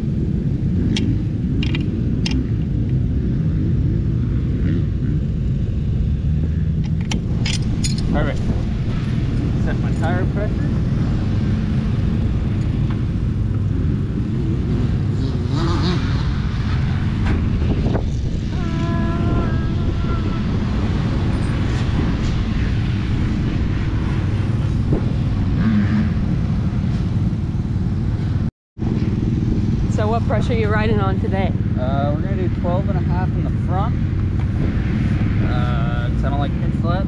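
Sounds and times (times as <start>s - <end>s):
motorcycle engines rumbling: 0.0s - 37.0s.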